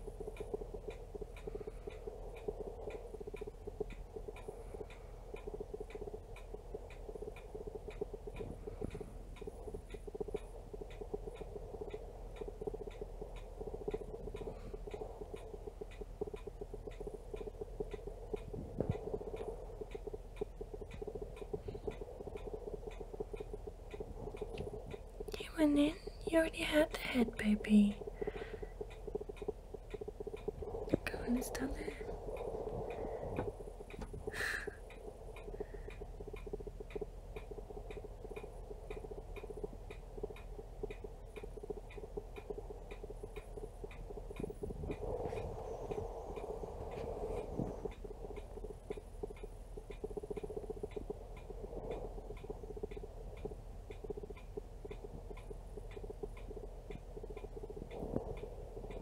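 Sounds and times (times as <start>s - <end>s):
autofocus motor ticking: 0.0s - 59.0s
low pulsing hum: 0.0s - 59.0s.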